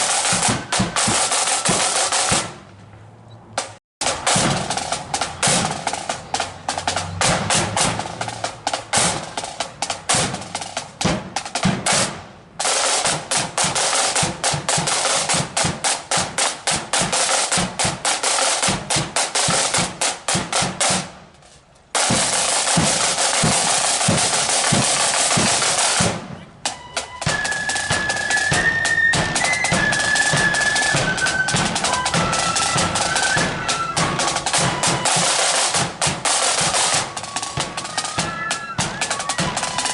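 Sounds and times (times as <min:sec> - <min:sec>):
marching snare drum rolls: 0:00.0 - 0:02.7, 0:03.6 - 0:39.9.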